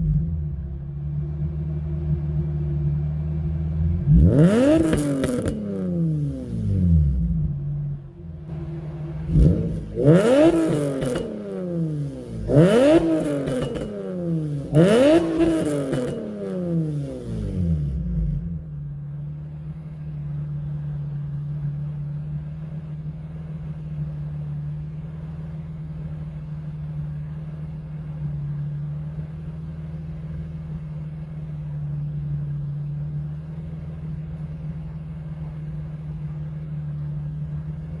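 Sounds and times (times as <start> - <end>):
car engine idling: 0.0 - 38.0
car engine revving: 0.0 - 38.0.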